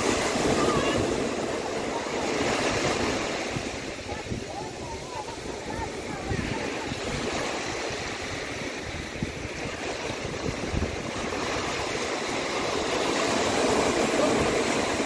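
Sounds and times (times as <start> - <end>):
waves washing onto sand: 0.0 - 15.0.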